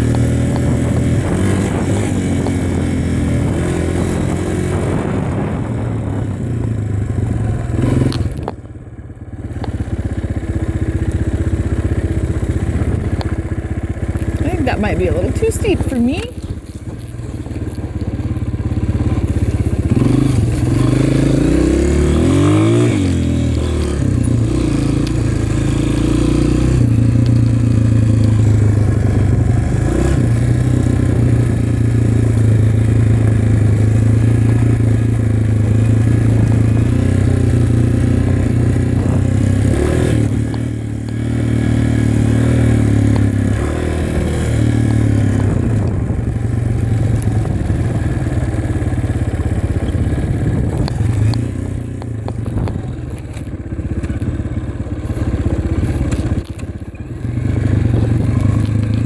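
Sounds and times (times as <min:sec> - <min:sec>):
dirt bike engine revving: 0:00.0 - 0:06.3, 0:07.3 - 0:08.4, 0:10.6 - 0:59.0.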